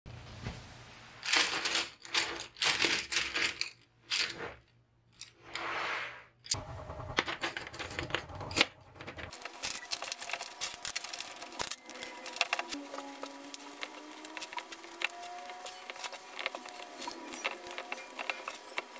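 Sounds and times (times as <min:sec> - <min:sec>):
wooden pencils rattling: 0:01.2 - 0:05.5, 0:07.2 - 0:18.9.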